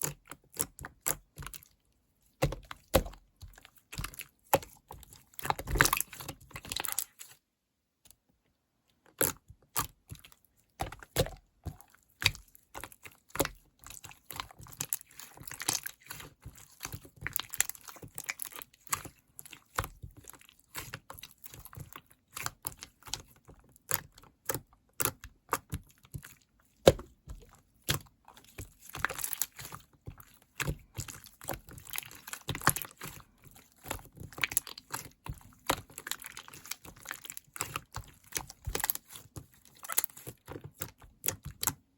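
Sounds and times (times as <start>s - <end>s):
slime being squished by hand: 0.0s - 7.4s, 9.0s - 41.9s.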